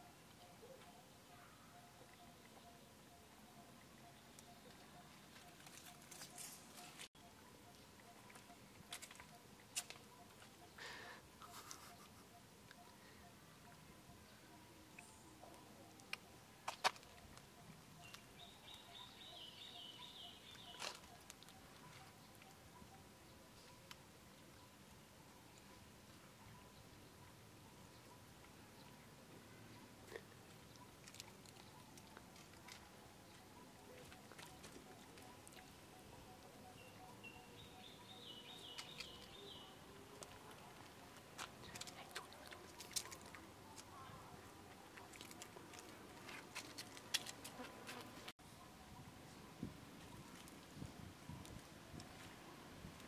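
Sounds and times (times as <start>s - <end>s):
faint outdoor ambience: 0.0s - 53.0s.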